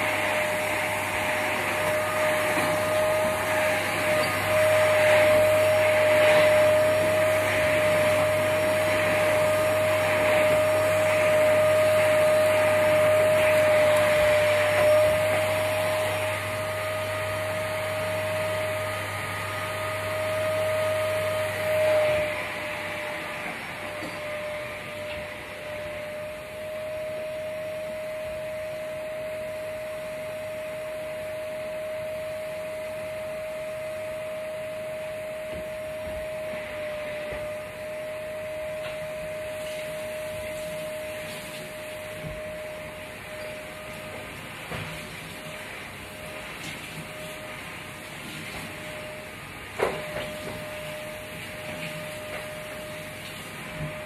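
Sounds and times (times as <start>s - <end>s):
vacuum cleaner running on carpet: 0.0s - 54.0s.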